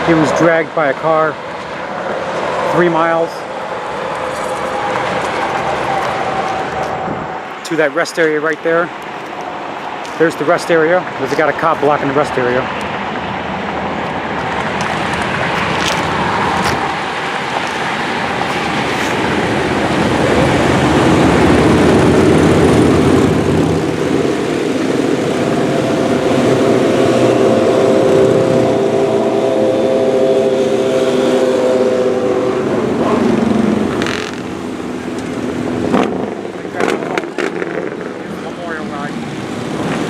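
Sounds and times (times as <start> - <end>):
droning engine: 0.0 - 7.6, 11.6 - 40.0
passing road traffic: 0.0 - 40.0.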